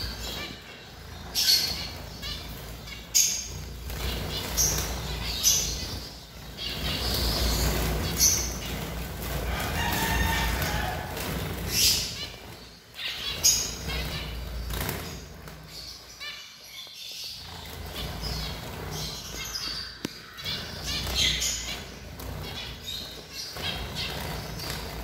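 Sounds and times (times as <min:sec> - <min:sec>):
wings fluttering: 0:00.0 - 0:16.2, 0:17.4 - 0:25.0
finches chirping: 0:00.0 - 0:25.0.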